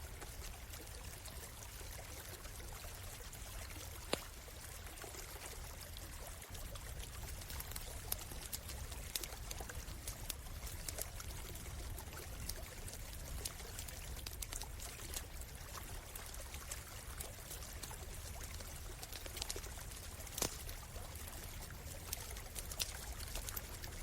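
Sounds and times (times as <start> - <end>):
stream water trickling: 0.0 - 24.0
wood campfire crackling: 2.8 - 24.0.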